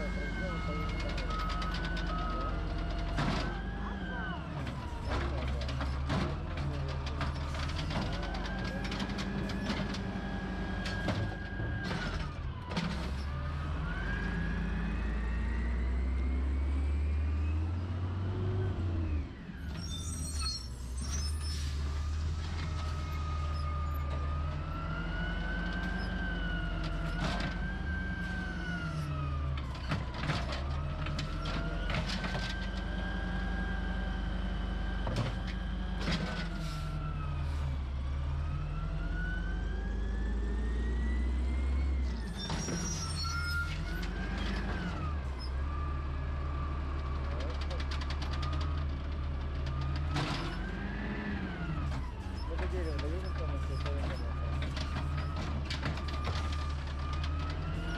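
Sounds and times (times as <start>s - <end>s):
road rumble: 0.0s - 57.9s
wind: 0.0s - 57.9s.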